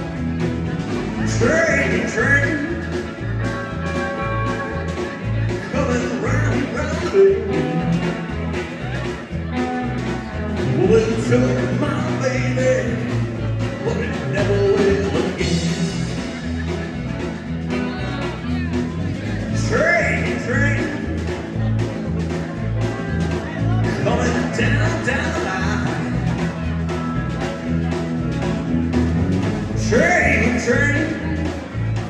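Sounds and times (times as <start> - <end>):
drums: 0.0 - 32.0
electric bass: 0.0 - 32.0
electric guitars: 0.0 - 32.0
man singing: 1.1 - 3.6, 4.2 - 16.4, 17.7 - 26.9, 29.7 - 32.0.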